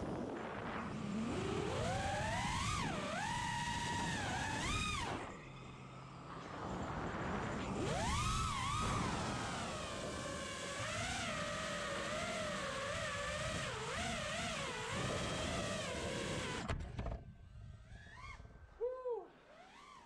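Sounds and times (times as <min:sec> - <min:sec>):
drone motors buzzing: 0:00.0 - 0:20.0
faint rising-and-falling tones: 0:00.0 - 0:20.0.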